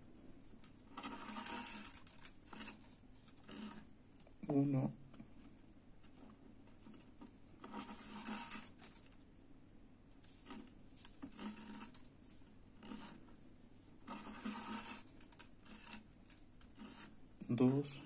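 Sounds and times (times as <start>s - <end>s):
thread rustling and scraping: 0.1s - 4.0s, 5.4s - 9.5s, 10.2s - 18.0s.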